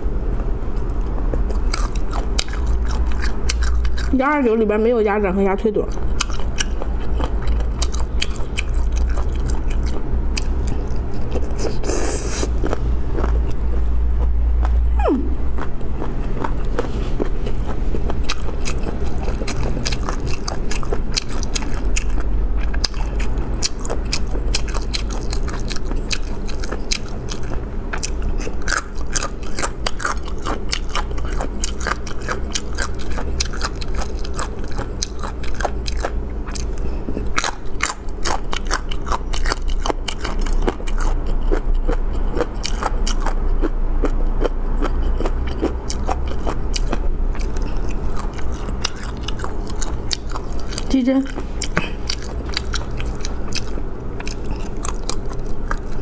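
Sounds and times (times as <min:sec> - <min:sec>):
low hum: 0:00.0 - 0:56.0
wet chewing clicks and crunches: 0:00.4 - 0:04.5, 0:05.8 - 0:56.0.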